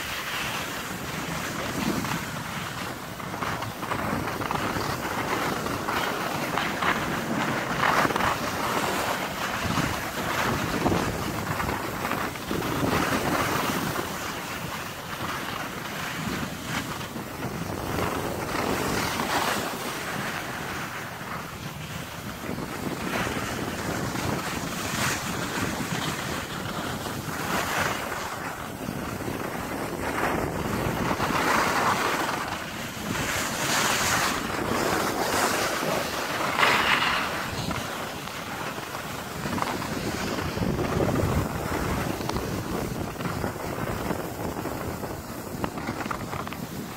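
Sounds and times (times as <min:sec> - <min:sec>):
ski edges scraping snow: 0:00.0 - 0:46.9
wind buffeting microphone: 0:00.0 - 0:46.9.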